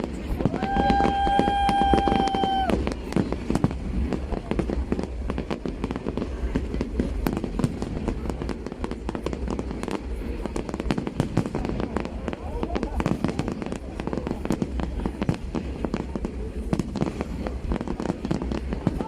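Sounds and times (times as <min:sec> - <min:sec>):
fireworks popping and banging: 0:00.0 - 0:19.0.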